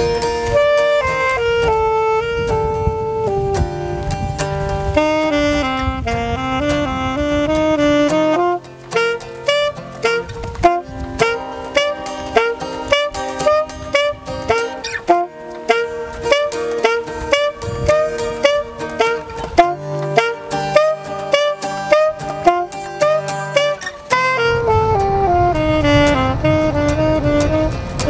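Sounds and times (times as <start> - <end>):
saxophone melody: 0.0 - 28.0
strummed acoustic guitar: 0.0 - 28.0.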